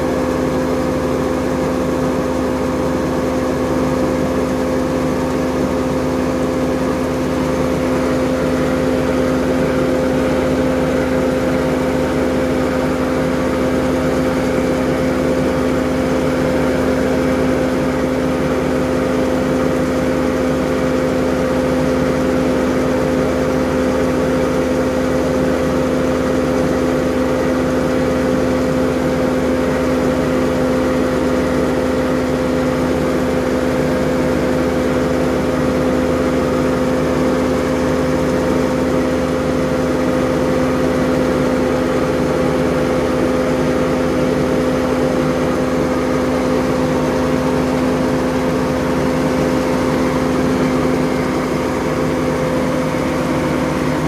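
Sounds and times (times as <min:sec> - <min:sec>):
grain auger and engine humming: 0:00.0 - 0:54.0.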